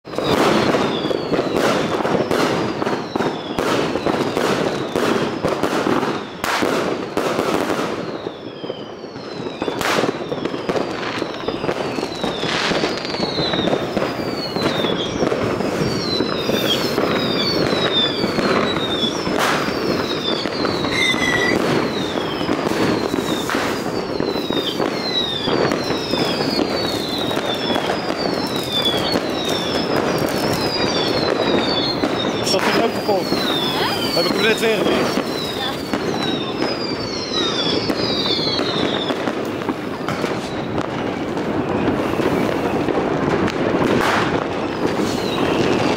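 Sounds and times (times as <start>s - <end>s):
fireworks bangs and crackling: 0.0s - 45.9s
fireworks whistles falling in pitch: 0.0s - 45.9s.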